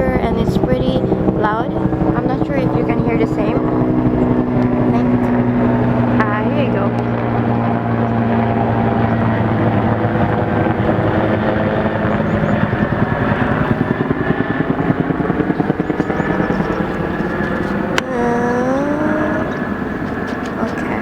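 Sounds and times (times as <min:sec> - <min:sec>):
helicopter flying over: 0:00.0 - 0:21.0.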